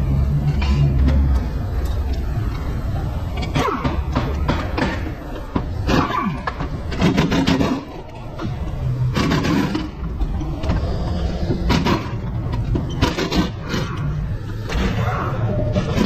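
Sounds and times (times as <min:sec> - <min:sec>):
low workshop rumble: 0:00.0 - 0:16.0.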